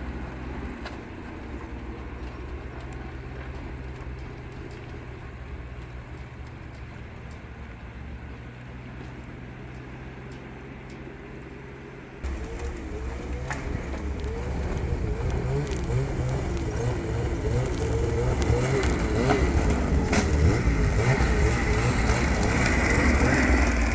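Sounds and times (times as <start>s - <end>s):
snowmobile engine running: 0.0s - 23.9s.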